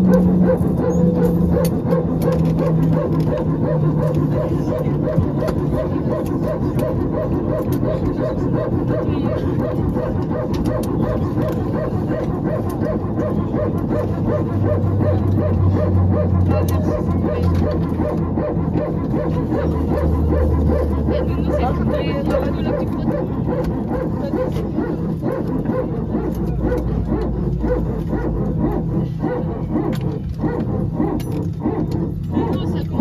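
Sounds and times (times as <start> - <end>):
low hum: 0.0 - 33.0
rapid bark-like mechanical pulses: 0.0 - 33.0.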